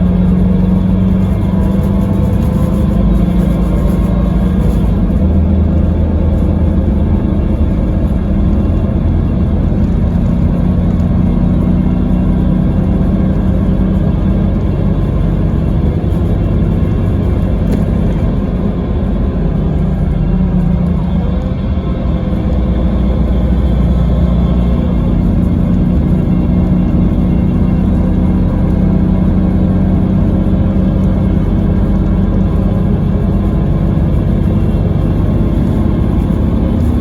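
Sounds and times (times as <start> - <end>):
coach engine deep drone: 0.0 - 37.0
road rumble: 0.0 - 37.0.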